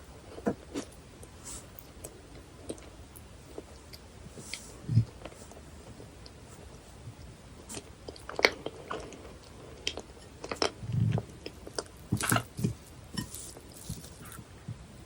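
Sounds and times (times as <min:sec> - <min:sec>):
chewing sticky food: 0:00.3 - 0:14.7.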